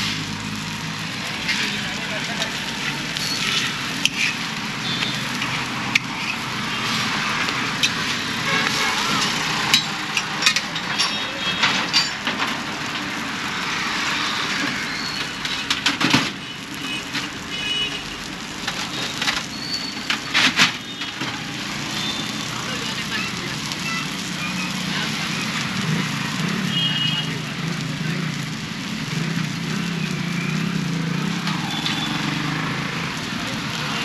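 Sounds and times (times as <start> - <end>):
food sizzling on griddle: 0.0 - 34.0.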